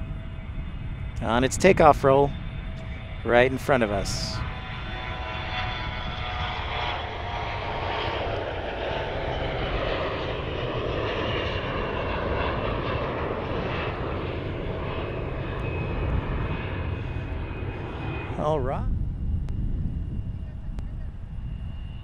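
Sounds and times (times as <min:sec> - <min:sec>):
jet engines roaring with whine: 0:00.0 - 0:22.0.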